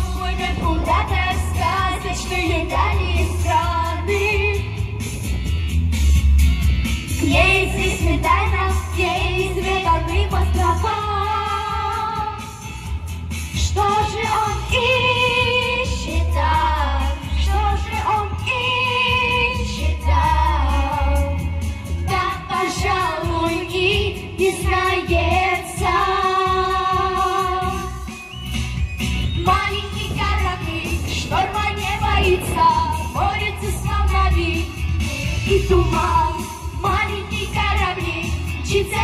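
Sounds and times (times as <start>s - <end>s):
children singing pop song: 0.0s - 5.2s, 7.1s - 28.2s, 29.1s - 39.0s
backing track with bass beat: 0.0s - 39.0s.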